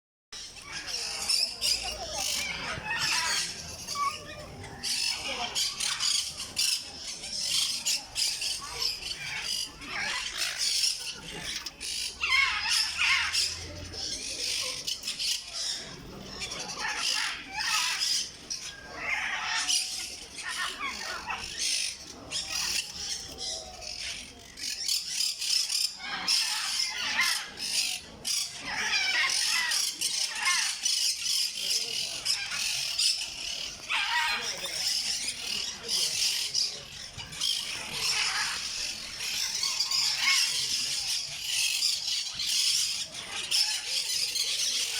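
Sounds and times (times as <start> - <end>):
parrot squawking: 0.4 - 23.4, 24.1 - 44.9.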